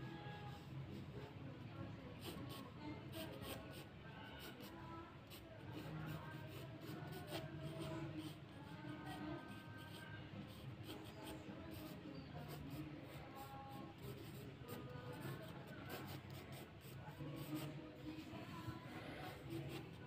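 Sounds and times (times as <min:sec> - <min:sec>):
pencil scratching on paper: 0:02.2 - 0:20.0.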